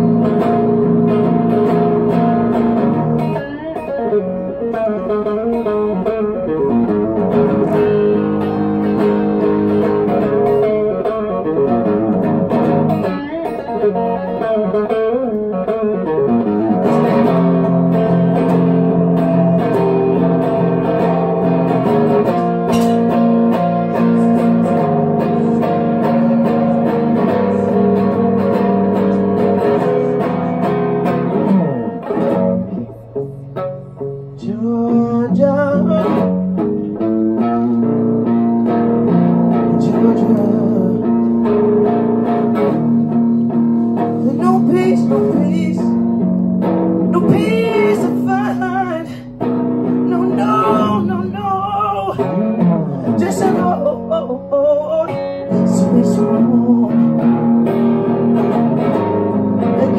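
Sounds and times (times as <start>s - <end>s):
guitar playing melody: 0.0s - 59.9s.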